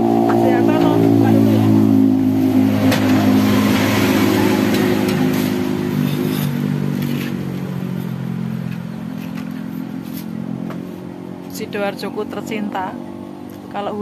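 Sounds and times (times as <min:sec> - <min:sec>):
low steady engine hum: 0:00.0 - 0:14.0
motorcycle passing on wet road: 0:00.0 - 0:14.0.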